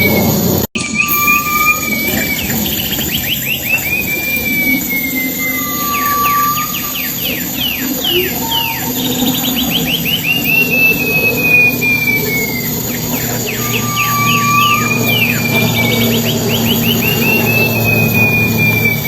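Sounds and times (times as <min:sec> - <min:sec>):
bird whistle sliding down: 0:00.8 - 0:19.0
sharp falling bird chirps: 0:00.8 - 0:19.0
short low bird whistle: 0:00.8 - 0:19.0.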